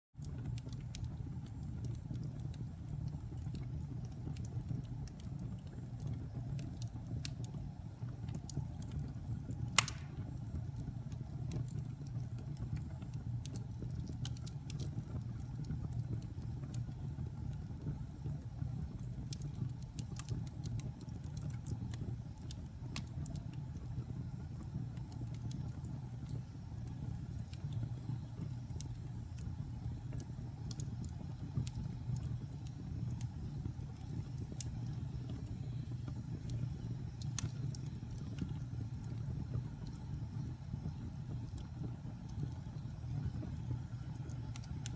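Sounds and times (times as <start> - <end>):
fire crackling and popping: 0.2 - 44.9
fire rumbling: 0.2 - 44.9
loud fire crack: 0.2 - 44.9.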